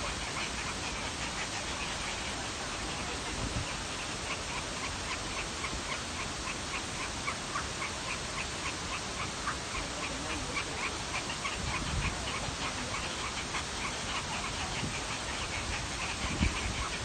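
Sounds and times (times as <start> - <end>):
nestlings high begging calls: 0.0 - 17.0
steady hiss: 0.0 - 17.0.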